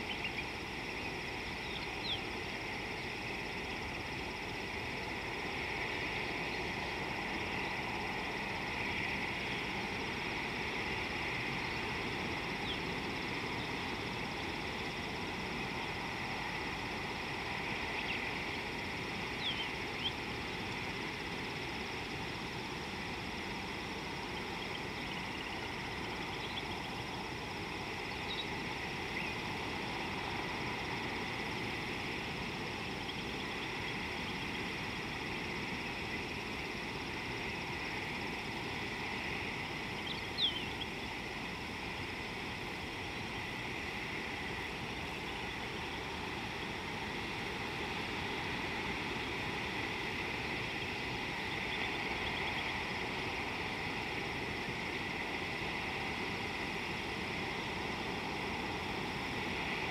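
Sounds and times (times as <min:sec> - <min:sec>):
constant hiss and hum: 0:00.0 - 0:59.9.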